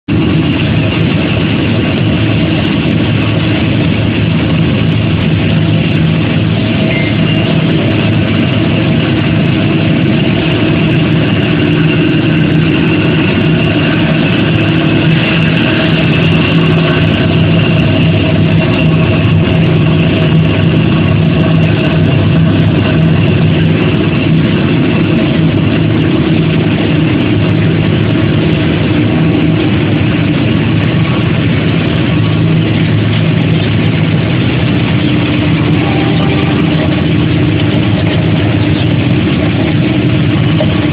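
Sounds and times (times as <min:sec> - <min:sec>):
factory machinery droning: 0:00.1 - 0:40.9.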